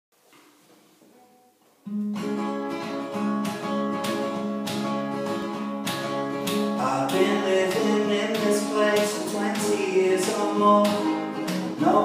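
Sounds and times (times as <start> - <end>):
acoustic guitar strumming: 1.0 - 12.0.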